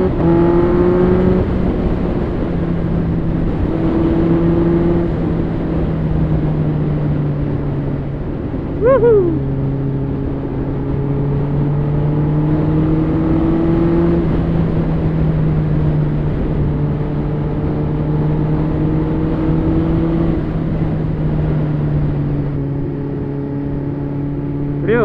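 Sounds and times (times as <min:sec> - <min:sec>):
wind rushing past microphone: 0:00.0 - 0:25.0.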